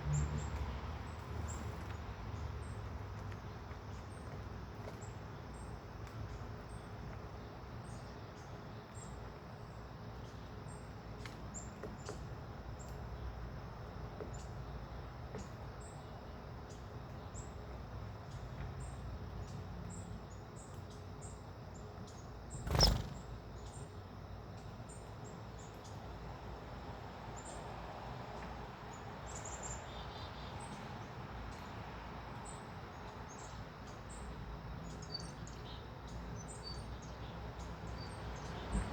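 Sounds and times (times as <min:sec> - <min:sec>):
small birds chirping: 0:00.1 - 0:13.4, 0:14.2 - 0:24.0, 0:28.4 - 0:31.8, 0:32.4 - 0:38.9.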